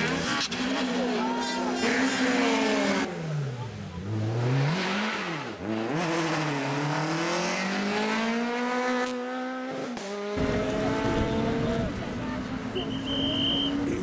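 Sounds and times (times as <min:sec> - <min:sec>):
rally car engine accelerating: 0:00.0 - 0:12.6.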